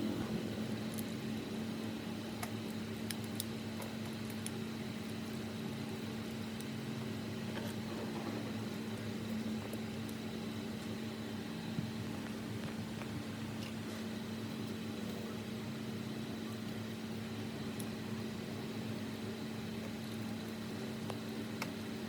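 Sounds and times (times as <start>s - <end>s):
machine hum with high whine: 0.0s - 22.0s.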